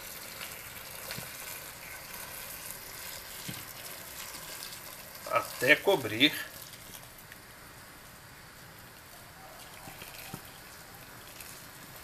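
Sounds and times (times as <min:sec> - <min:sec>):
water pouring into pot: 0:00.0 - 0:07.4, 0:09.6 - 0:12.0.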